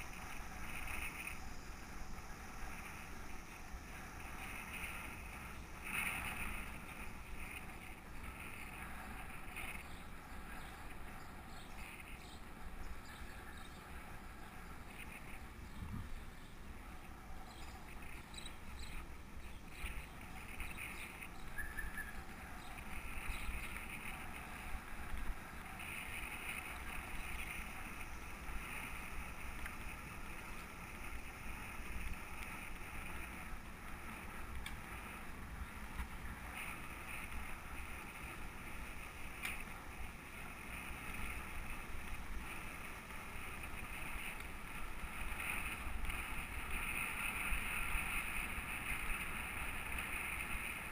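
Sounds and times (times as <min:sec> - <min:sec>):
tyres rolling on asphalt: 0:00.0 - 0:50.9
wind buffeting microphone: 0:00.0 - 0:50.9.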